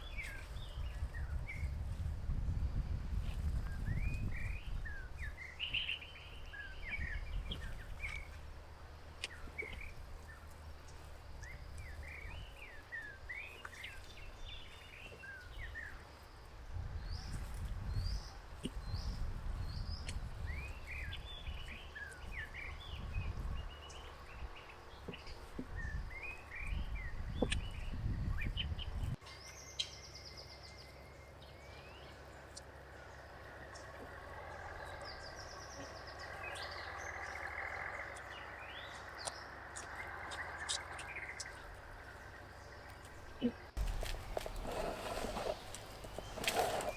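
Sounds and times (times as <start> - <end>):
outdoor background noise: 0.0 - 46.9
small birds chirping: 3.2 - 46.9.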